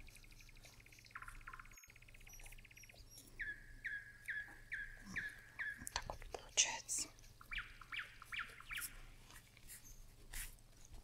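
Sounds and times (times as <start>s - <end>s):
small bird chirping: 0.0s - 10.5s.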